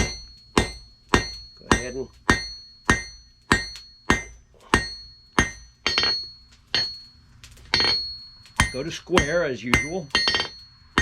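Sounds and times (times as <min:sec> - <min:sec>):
anvil ringing: 0:00.0 - 0:11.0
hammer blows on hot steel: 0:00.0 - 0:11.0.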